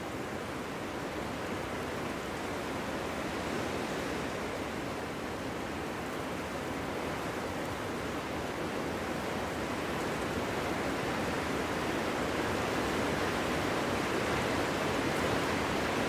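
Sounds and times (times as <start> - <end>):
wind blowing through forest: 0.0 - 16.0.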